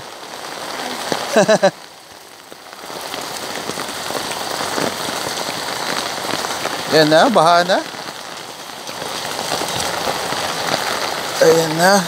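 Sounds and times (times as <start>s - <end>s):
heavy rain on umbrella: 0.0s - 12.0s.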